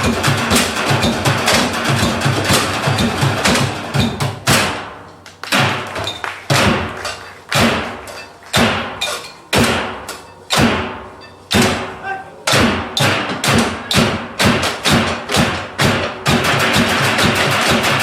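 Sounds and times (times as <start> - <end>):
heavy percussion strikes ringing: 0.0 - 18.0.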